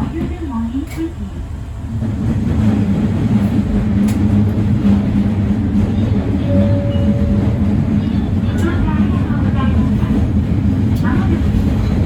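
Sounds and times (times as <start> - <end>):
diesel railcar engine drone: 0.0 - 12.0
train rolling noise: 0.0 - 12.0.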